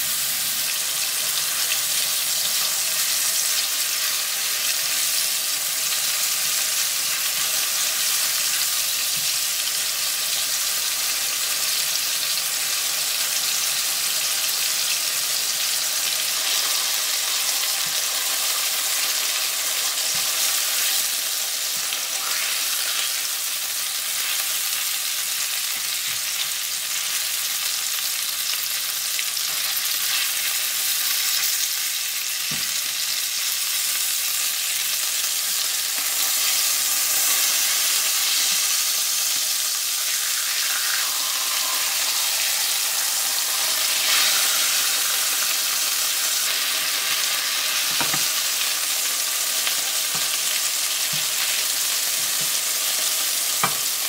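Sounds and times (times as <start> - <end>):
chicken sizzling in frying pan: 0.0 - 54.0.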